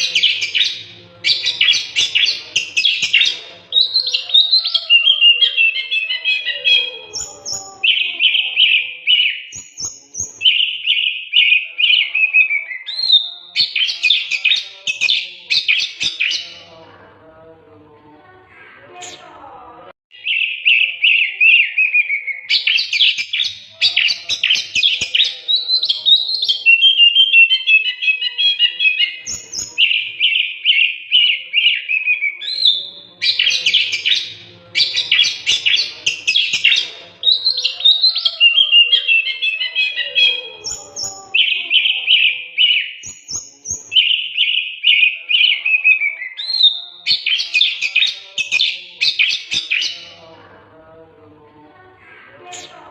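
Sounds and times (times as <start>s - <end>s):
bird singing whistles and trills: 0.0s - 16.5s, 20.2s - 50.1s.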